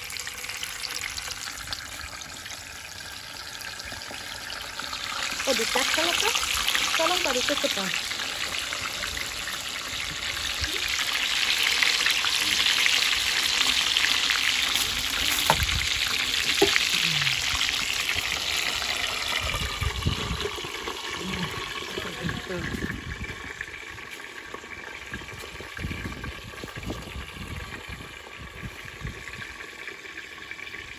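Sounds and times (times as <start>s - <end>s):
chicken sizzling in hot oil: 0.0s - 30.9s.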